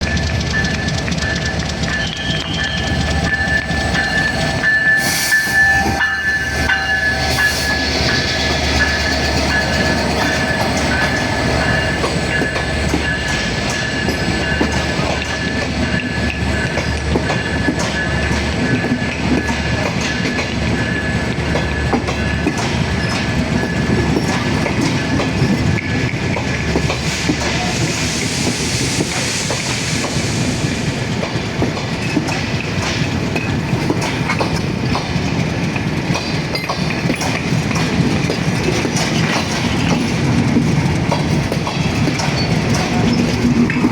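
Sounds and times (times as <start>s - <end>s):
train wheels clattering over rails: 0.0s - 43.9s.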